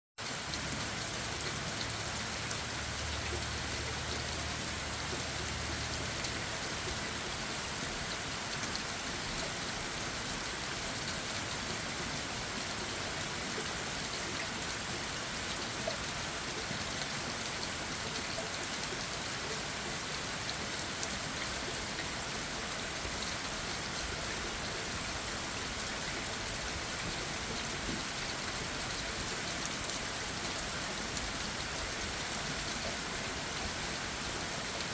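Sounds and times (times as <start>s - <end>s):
rain on leaves and ground: 0.2s - 34.9s.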